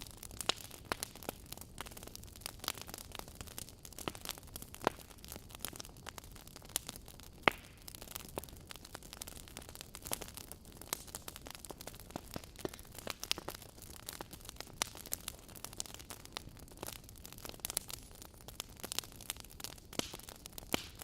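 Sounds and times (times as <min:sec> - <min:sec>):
low hiss of fire: 0:00.0 - 0:21.0
wood fire crackling: 0:00.0 - 0:21.0.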